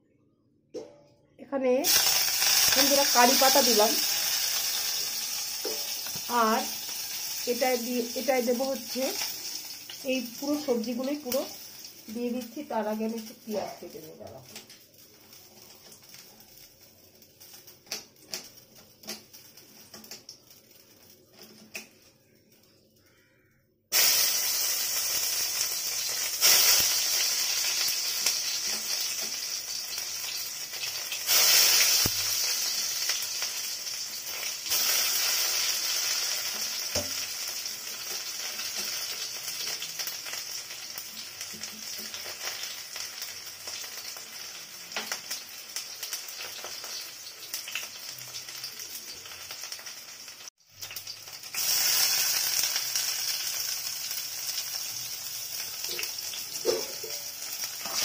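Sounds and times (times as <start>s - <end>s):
onion frying sizzle: 1.6s - 58.0s.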